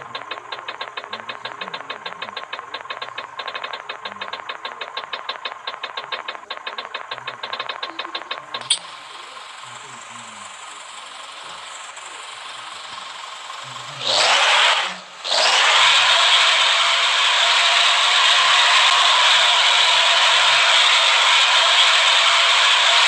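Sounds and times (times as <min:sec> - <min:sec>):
rapid mechanical clicking: 0:00.0 - 0:23.0.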